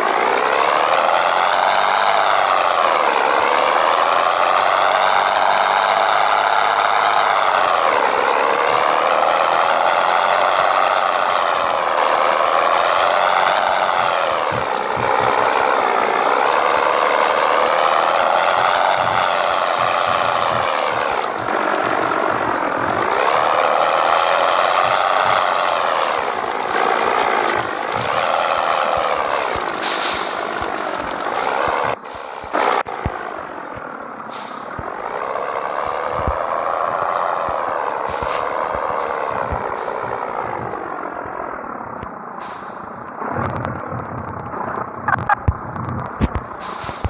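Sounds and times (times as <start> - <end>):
truck diesel engine pulling hard: 0.0 - 47.0.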